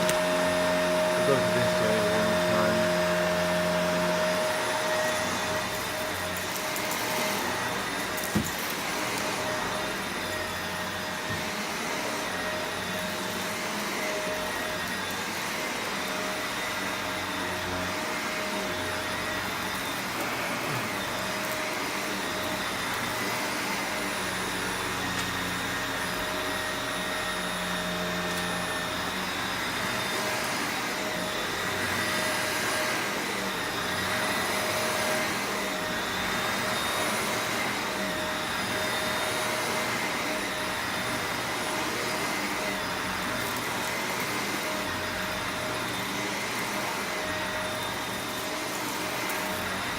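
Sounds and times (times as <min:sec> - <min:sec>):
vacuum cleaner running over carpet: 0:00.0 - 0:49.9.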